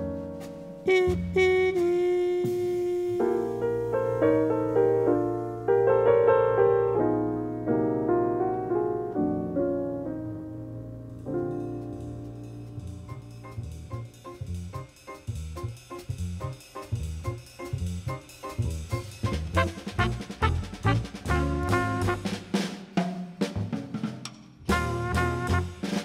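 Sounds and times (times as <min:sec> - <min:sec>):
piano background music: 0:00.0 - 0:22.4.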